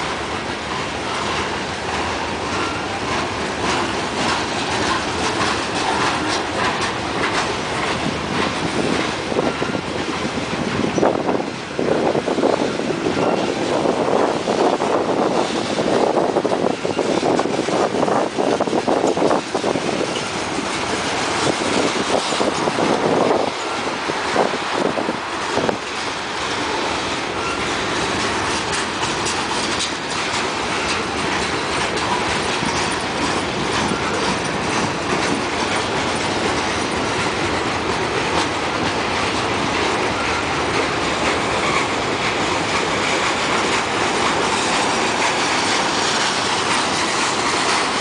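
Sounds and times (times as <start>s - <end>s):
train wheels rattling on rails: 0.0s - 48.0s
wheels clicking over rail joints: 0.0s - 48.0s.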